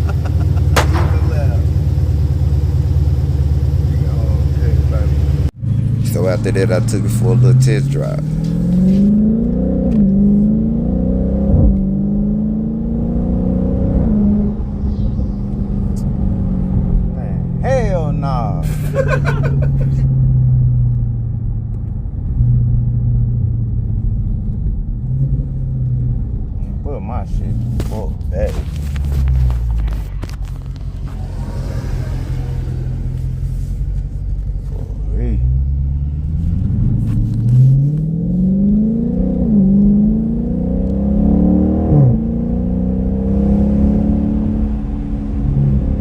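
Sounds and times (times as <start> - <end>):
car engine droning at cruise: 0.0 - 46.0.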